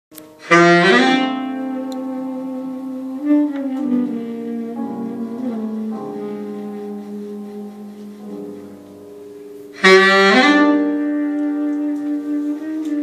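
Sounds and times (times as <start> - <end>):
saxophone slow melody: 0.2 - 13.0.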